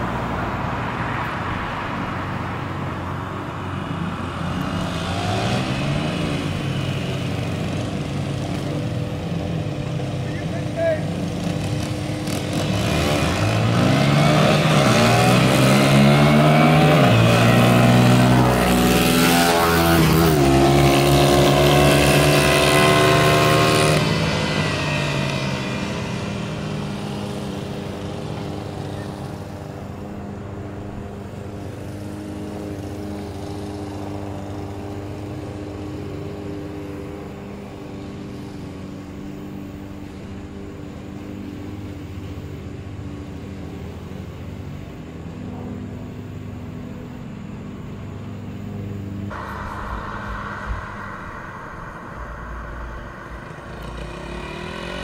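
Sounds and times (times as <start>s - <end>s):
dirt bike engines revving past: 0.0s - 55.0s
steady engine drone: 0.0s - 55.0s.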